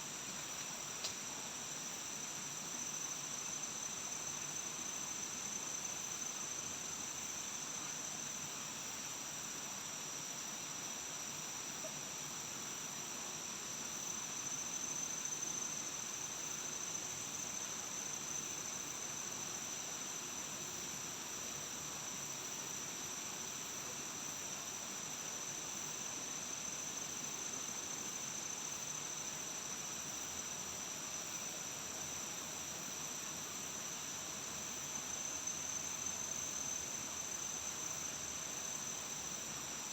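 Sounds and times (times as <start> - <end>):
background hiss: 0.0 - 39.9
crickets buzzing: 0.0 - 39.9.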